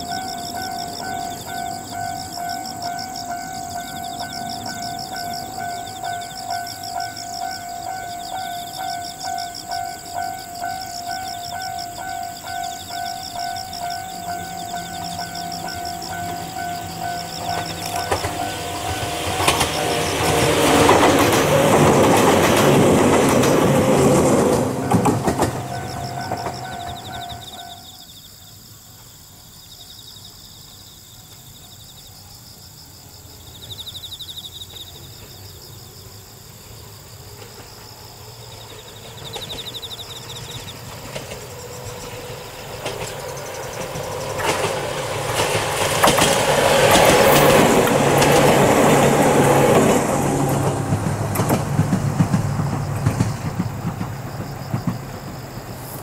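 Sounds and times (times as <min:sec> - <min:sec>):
electric train passing: 0:00.0 - 0:29.3, 0:32.1 - 0:56.0.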